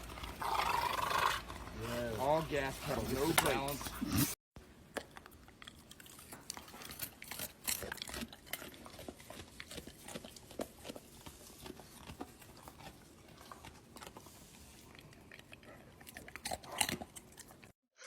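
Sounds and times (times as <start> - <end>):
dog chewing: 0.0 - 17.8.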